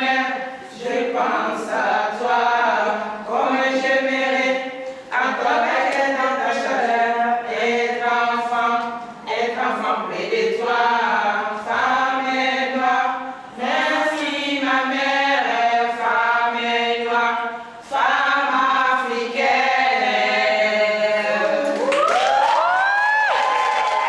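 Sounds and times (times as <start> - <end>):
women singing unaccompanied: 0.0 - 22.0.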